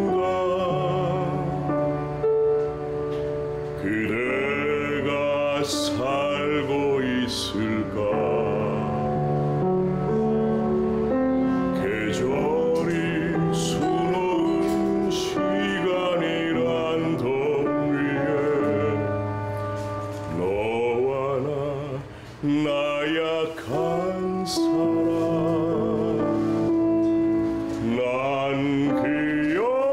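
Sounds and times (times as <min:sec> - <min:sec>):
man singing operatic style: 0:00.0 - 0:02.0, 0:03.8 - 0:09.6, 0:11.8 - 0:19.4, 0:20.3 - 0:27.0, 0:27.7 - 0:29.9
piano: 0:00.0 - 0:29.9.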